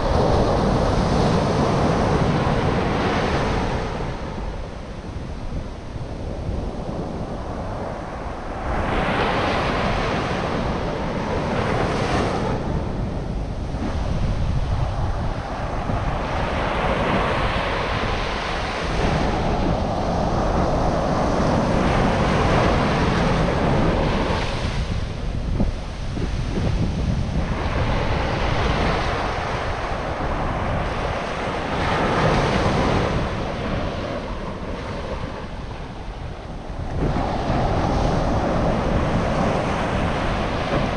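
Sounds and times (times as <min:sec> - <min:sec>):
ocean surf breaking: 0:00.0 - 0:40.9
wind buffeting microphone: 0:00.0 - 0:40.9.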